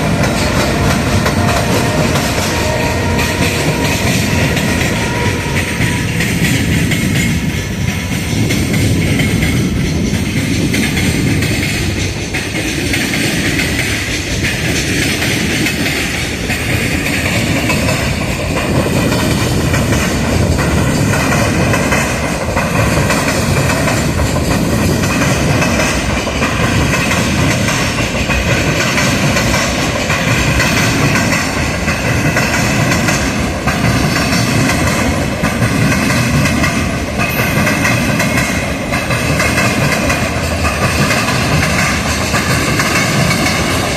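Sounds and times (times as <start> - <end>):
freight train passing: 0.0 - 43.9
wagons clattering over rail joints: 0.0 - 43.9.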